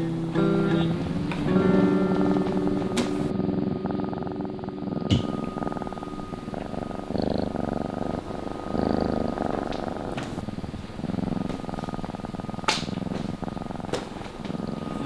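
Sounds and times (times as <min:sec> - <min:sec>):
purring rumble: 0:00.0 - 0:15.0.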